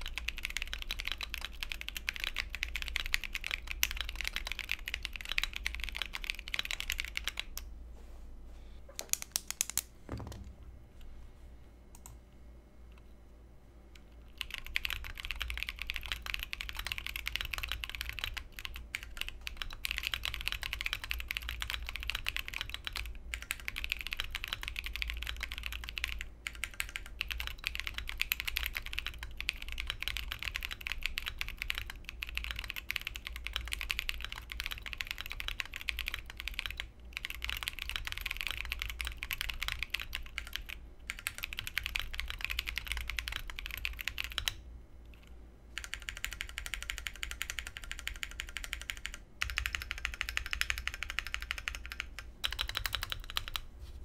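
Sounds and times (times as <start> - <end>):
mechanical keyboard typing: 0.0 - 7.6, 8.9 - 10.4, 14.0 - 53.7.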